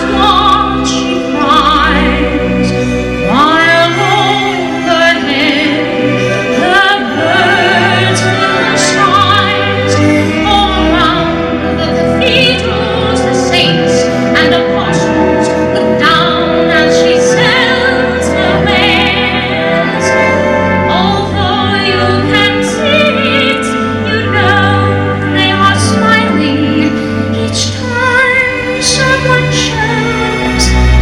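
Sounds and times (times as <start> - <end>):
orchestral accompaniment: 0.0 - 31.0
woman singing operatic ballad: 0.0 - 31.0.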